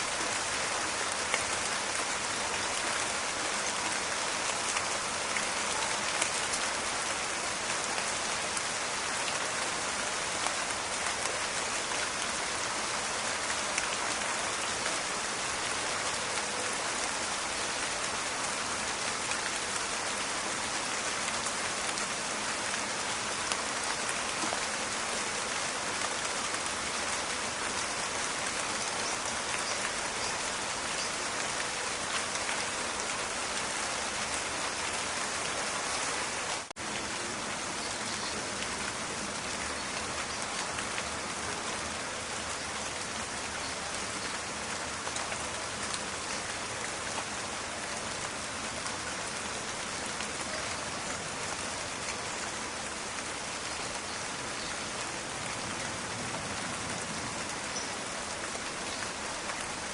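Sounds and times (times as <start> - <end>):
rain pattering in forest: 0.0 - 59.9.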